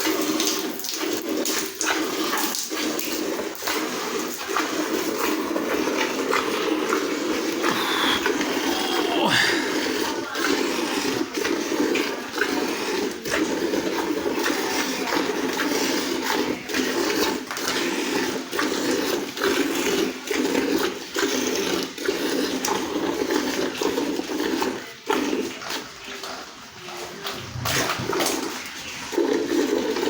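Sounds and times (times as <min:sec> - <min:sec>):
milk squirting into a pail: 0:00.0 - 0:30.0.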